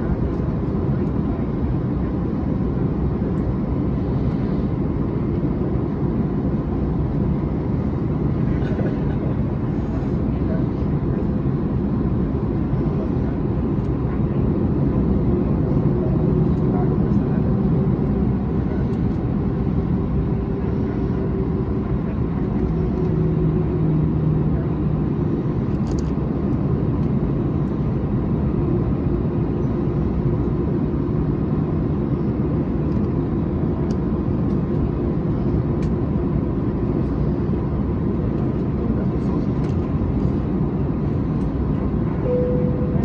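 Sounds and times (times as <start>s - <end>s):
aircraft cabin hum: 0.0s - 43.0s.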